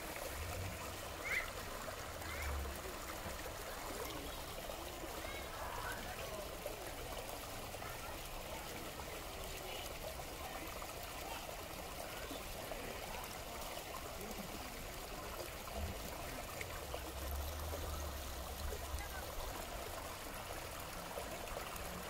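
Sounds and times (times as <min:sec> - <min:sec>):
creek water over rocks: 0:00.0 - 0:22.0.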